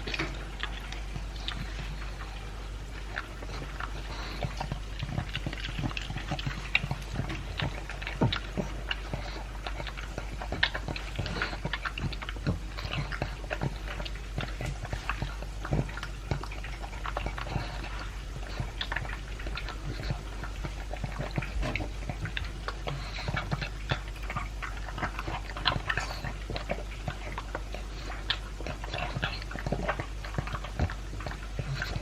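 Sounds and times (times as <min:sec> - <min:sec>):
dog chewing dry kibble: 0:00.0 - 0:32.0.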